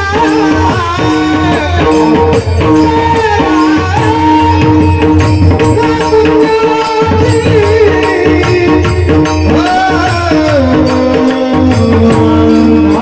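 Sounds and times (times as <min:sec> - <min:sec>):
sustained devotional melody: 0:00.0 - 0:13.0
tabla drum strokes: 0:00.0 - 0:13.0.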